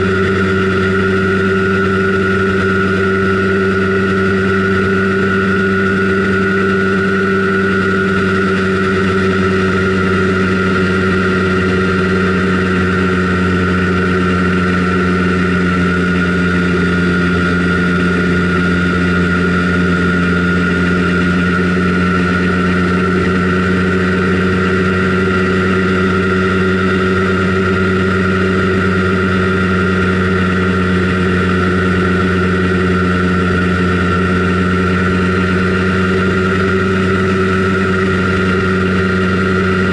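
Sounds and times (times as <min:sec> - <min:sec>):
scooter two-stroke engine cruising: 0:00.0 - 0:39.9.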